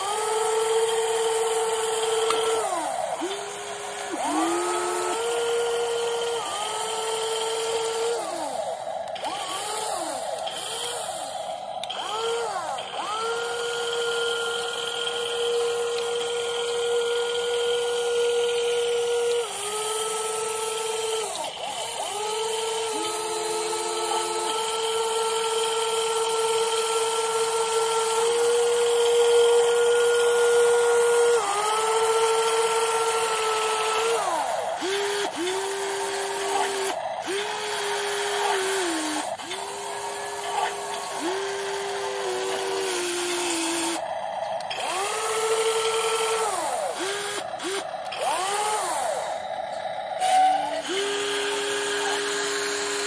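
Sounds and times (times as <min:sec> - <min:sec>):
electric motors whining: 0:00.0 - 0:53.0.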